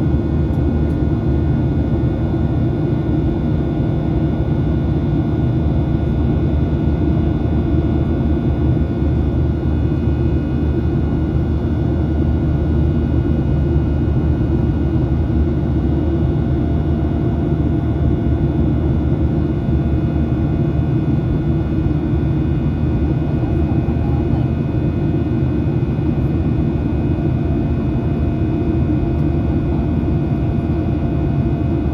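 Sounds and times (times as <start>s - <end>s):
plane engines droning: 0.0s - 31.9s.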